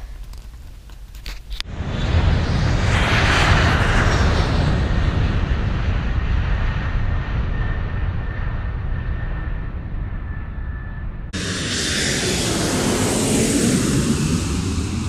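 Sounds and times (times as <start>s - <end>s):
jet engines at takeoff: 1.6s - 15.0s
deep rumble of takeoff roll: 1.7s - 15.0s.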